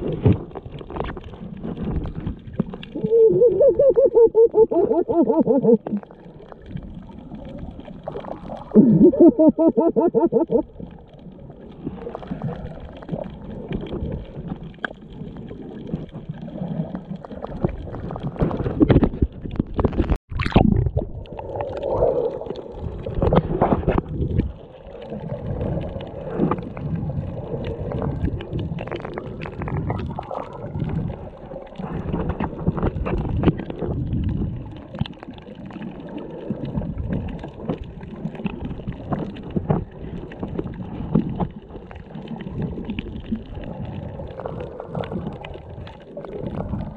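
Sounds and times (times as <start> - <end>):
water rushing and sloshing underwater: 0.0 - 46.9.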